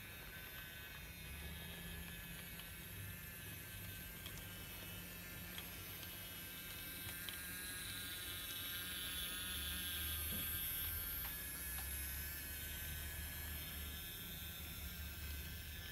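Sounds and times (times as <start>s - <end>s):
toy train motor whirring: 0.0s - 15.9s.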